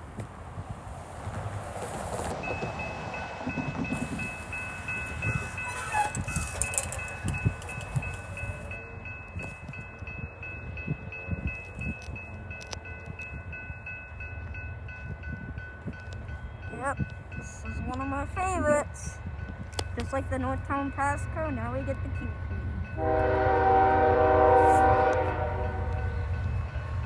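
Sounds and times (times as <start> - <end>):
crossing warning bell ringing: 2.4 - 27.0.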